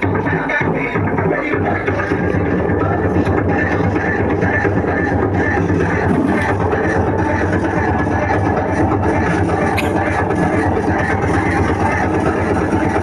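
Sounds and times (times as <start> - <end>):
bass-heavy music through speaker: 0.0 - 13.0.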